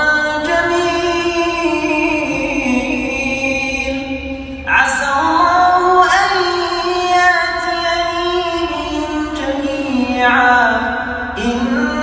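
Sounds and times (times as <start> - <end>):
man chanting recitation: 0.0 - 12.0.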